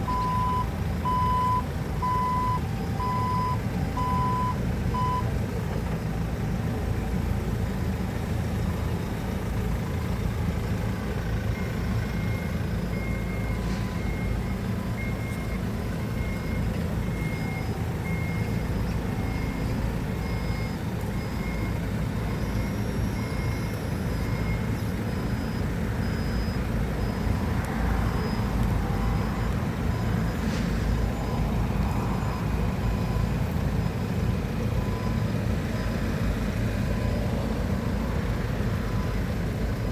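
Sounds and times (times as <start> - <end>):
reversing alarm beeping: 0.0 - 5.4, 10.7 - 38.2.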